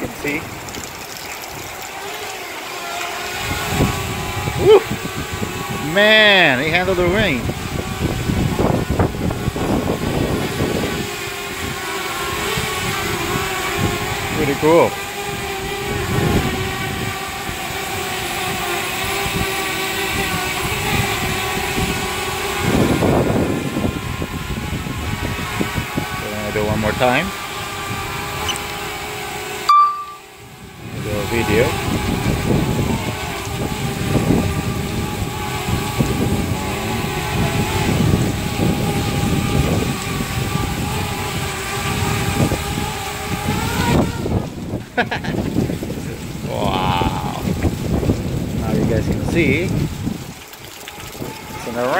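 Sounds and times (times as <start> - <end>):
drone propellers whining: 0.0 - 48.3
rain hiss: 0.0 - 51.9
wind noise: 3.3 - 51.9.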